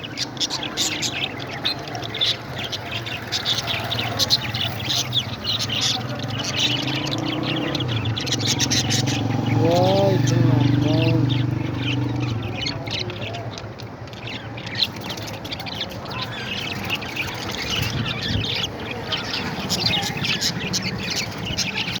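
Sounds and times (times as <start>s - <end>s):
parrots chirping and squawking: 0.0s - 22.0s.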